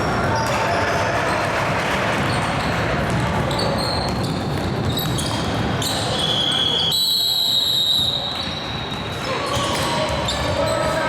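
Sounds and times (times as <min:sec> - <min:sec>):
voices echoing in gym: 0:00.0 - 0:11.0.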